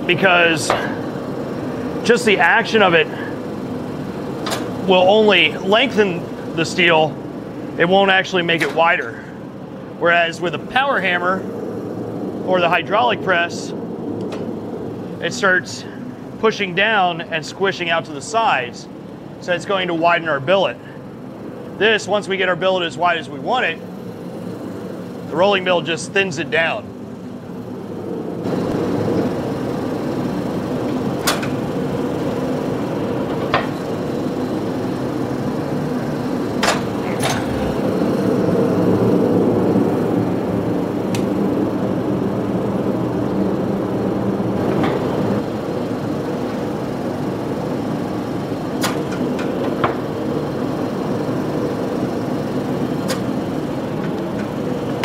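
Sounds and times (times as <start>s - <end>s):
rolling mill running: 0.0s - 55.0s.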